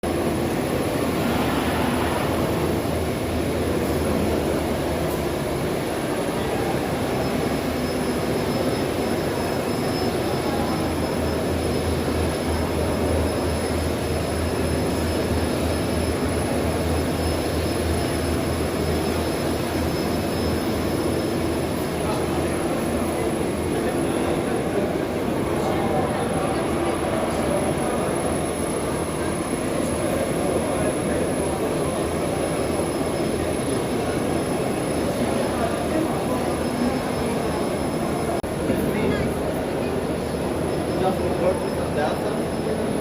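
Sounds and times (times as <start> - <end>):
thin high whine: 0.1 - 43.0.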